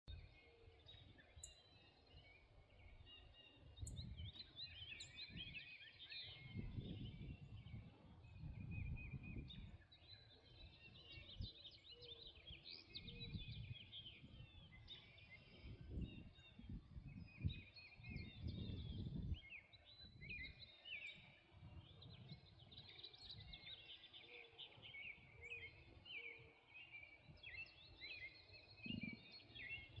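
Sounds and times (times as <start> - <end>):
songbirds chirping and trilling: 0.1 - 30.0.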